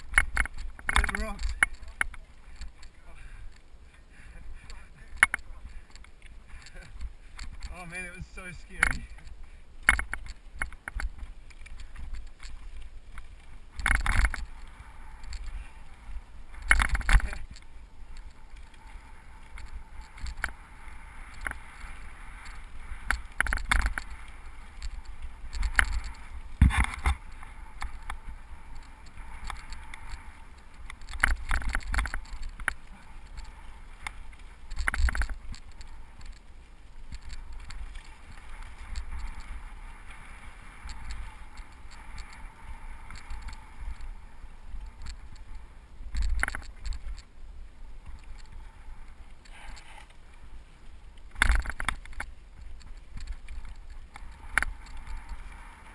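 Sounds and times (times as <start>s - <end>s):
bike rattling over bumps: 0.0s - 3.6s, 4.6s - 47.3s
bike jolts: 0.0s - 47.3s
bike tyres rolling on gravel: 0.0s - 55.9s.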